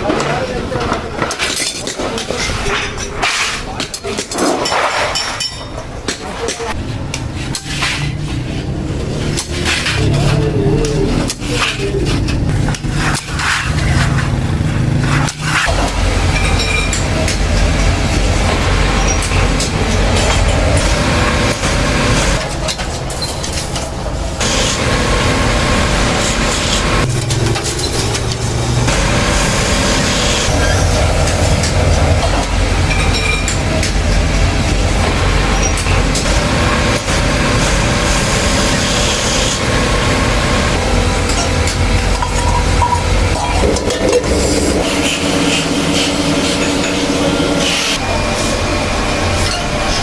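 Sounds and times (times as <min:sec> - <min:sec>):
rapid metallic clatter: 0:00.0 - 0:48.0
workshop machinery noise: 0:00.0 - 0:50.0.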